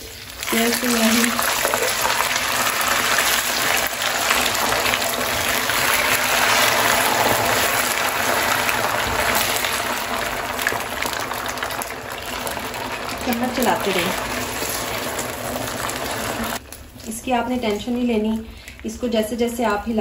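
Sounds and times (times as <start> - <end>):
batter sizzling in frying pan: 0.0 - 17.2.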